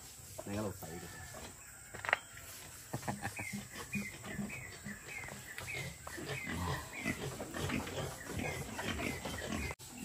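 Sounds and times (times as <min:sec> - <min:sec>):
bird chirping: 0:01.6 - 0:10.0.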